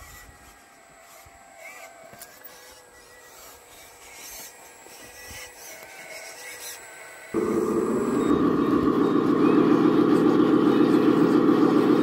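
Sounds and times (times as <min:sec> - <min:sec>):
faint motor whine: 0:00.0 - 0:12.0.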